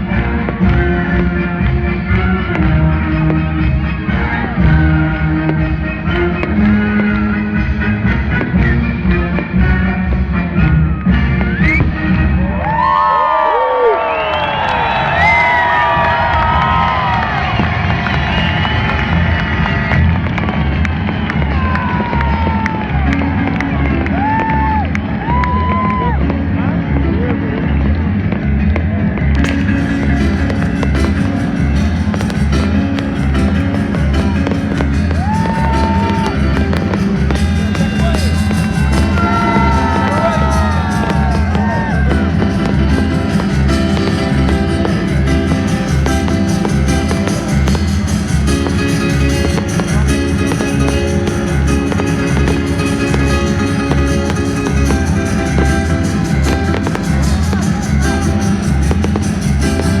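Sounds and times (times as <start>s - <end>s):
firework bangs and crackles: 0.0s - 12.2s, 14.1s - 60.0s
loud music with bass line: 0.0s - 12.8s, 15.1s - 60.0s.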